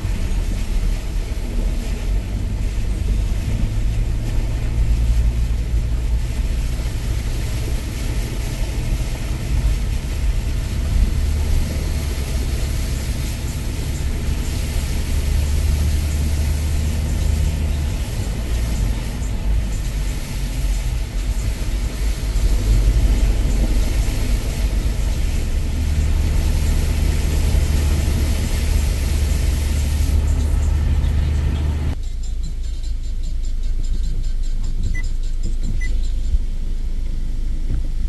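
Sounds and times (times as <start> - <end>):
tyres hissing through water: 0.0 - 32.0
car driving rumble: 0.0 - 38.0.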